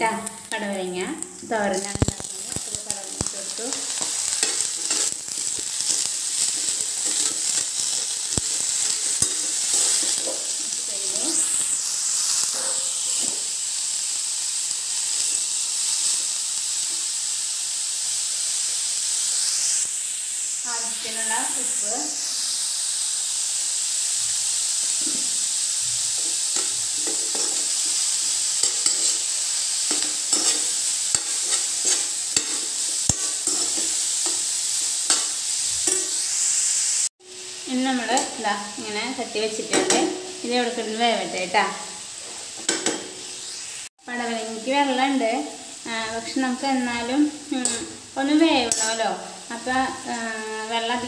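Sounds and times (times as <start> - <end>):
food sizzling in hot oil: 0.0 - 51.0.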